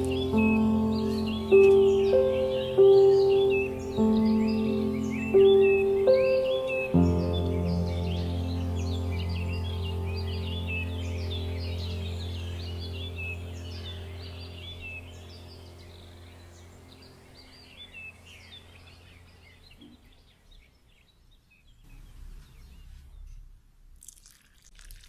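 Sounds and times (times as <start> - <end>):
steady low hum: 0.0 - 20.6
small birds chirping: 0.0 - 25.0.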